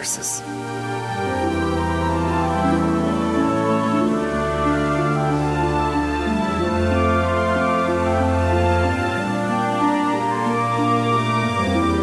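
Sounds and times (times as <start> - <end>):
music of sustained chords: 0.0 - 12.0.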